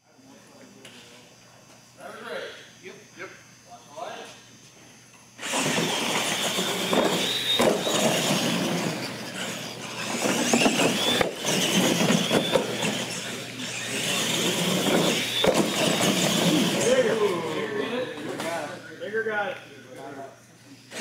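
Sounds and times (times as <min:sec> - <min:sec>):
electric motors whining: 0:02.4 - 0:21.0.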